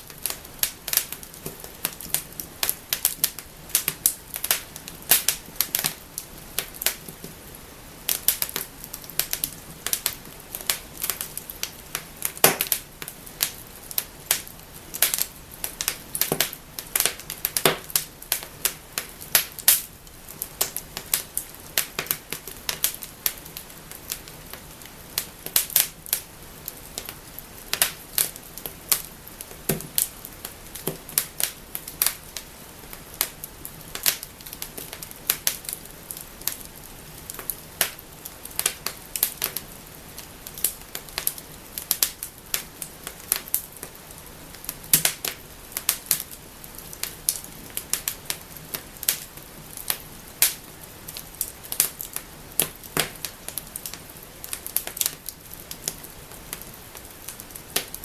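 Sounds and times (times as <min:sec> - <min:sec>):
faint hiss of flames: 0:00.0 - 0:58.0
wood fire crackling and popping: 0:00.0 - 0:58.0.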